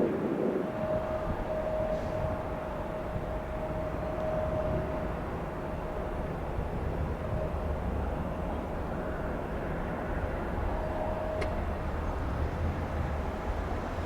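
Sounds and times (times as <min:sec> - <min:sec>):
jet engines rumbling: 0:00.0 - 0:14.0
faint steady tone: 0:00.5 - 0:14.0.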